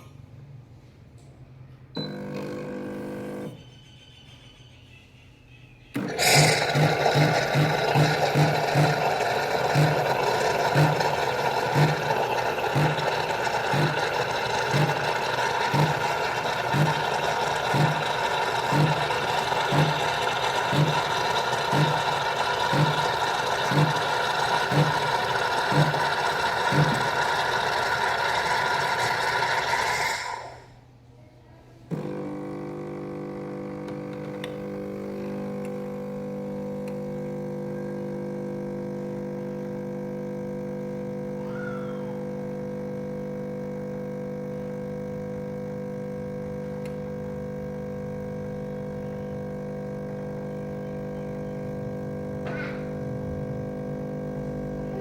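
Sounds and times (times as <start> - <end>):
coffee machine running: 2.0 - 3.8, 6.0 - 30.8, 31.9 - 55.0.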